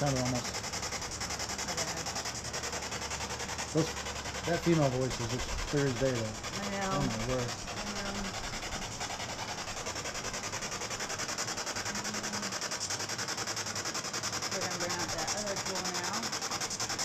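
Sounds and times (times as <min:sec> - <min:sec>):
pulsing radio static: 0:00.0 - 0:12.8, 0:14.5 - 0:17.0.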